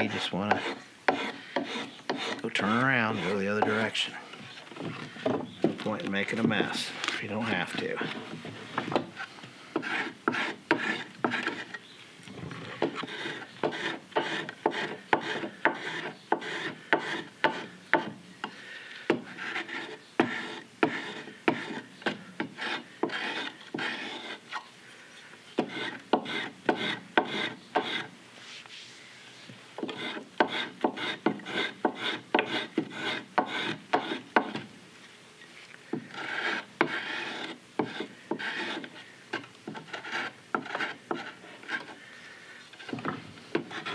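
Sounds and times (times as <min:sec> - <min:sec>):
hand tool cutting wood: 0:00.0 - 0:11.9, 0:12.5 - 0:24.6, 0:25.6 - 0:28.1, 0:29.8 - 0:34.7, 0:35.9 - 0:42.0, 0:42.7 - 0:43.9.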